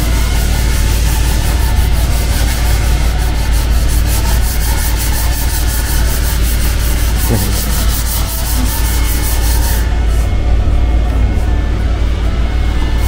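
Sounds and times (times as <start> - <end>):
hand sanding strokes: 0.0 - 10.6.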